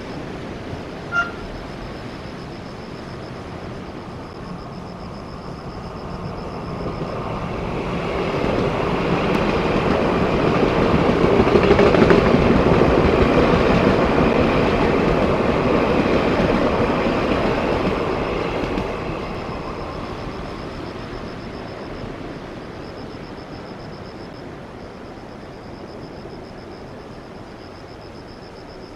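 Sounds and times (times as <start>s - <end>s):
electric train passing at speed: 0.0s - 28.9s.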